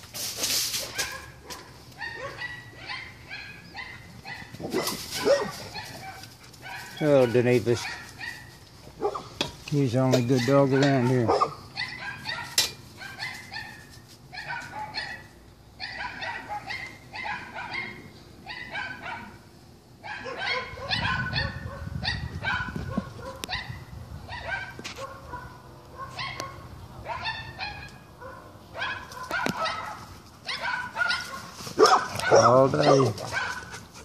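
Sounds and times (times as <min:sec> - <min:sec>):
dogs barking: 0:00.8 - 0:34.0.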